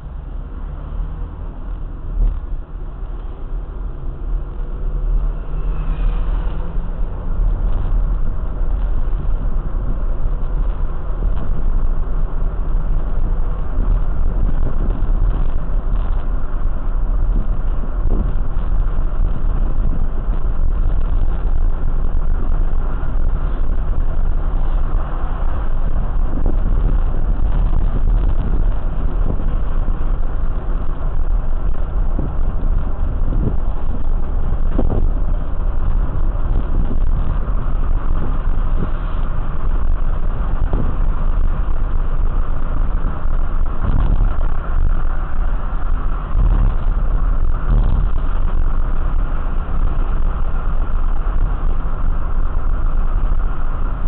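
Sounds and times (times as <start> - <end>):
vehicle low rumble: 0.0 - 54.0.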